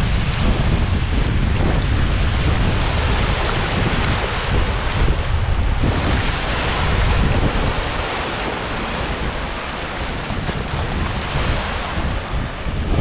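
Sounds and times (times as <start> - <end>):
small waves breaking on sand: 0.0 - 13.0
wind on microphone: 0.0 - 13.0.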